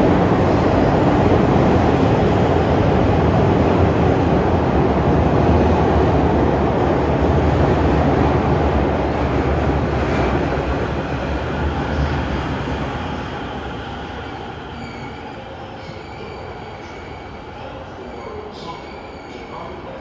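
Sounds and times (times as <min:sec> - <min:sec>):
electric train rumbling: 0:00.0 - 0:19.5.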